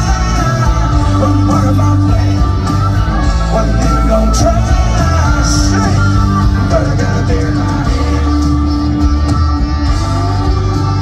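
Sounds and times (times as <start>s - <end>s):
live country-rock band: 0.0s - 11.0s.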